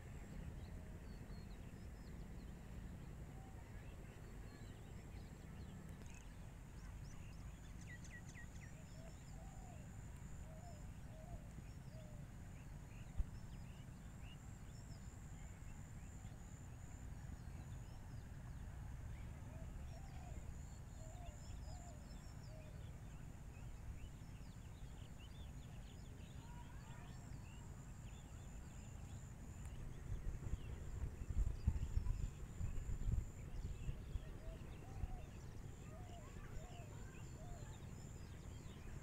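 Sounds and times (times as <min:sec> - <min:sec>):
low steady rumble: 0:00.0 - 0:39.0.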